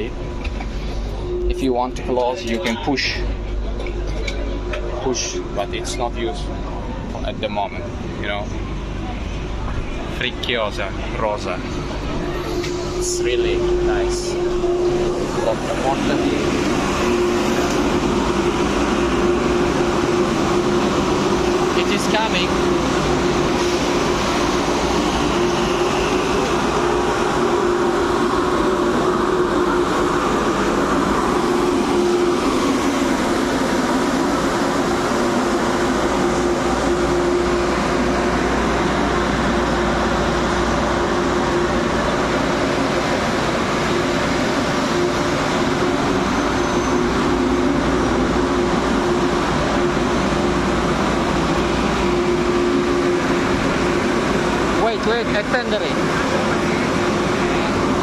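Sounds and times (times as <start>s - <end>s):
steady hum: 0.0s - 58.0s
train rumble: 0.0s - 58.0s.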